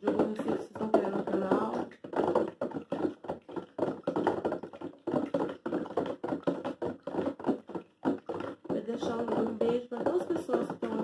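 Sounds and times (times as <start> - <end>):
utensil stirring in plastic bottle: 0.0 - 11.0
utensil tapping plastic: 0.0 - 11.0.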